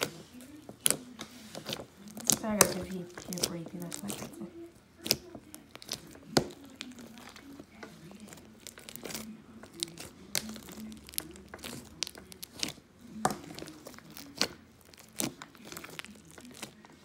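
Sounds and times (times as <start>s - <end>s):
slime squishing and popping: 0.0s - 17.0s.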